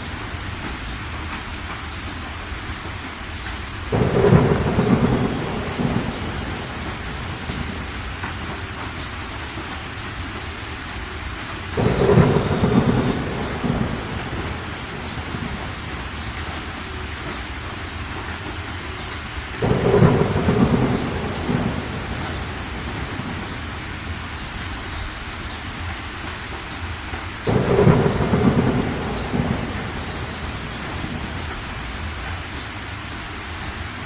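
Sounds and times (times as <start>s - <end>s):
steady rain: 0.0s - 34.0s
thunderclaps rumbling: 3.8s - 34.0s.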